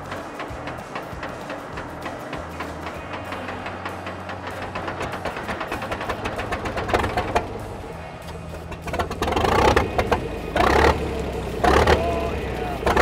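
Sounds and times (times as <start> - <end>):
background music: 0.0 - 13.0
engine cranking and starting: 0.0 - 13.0.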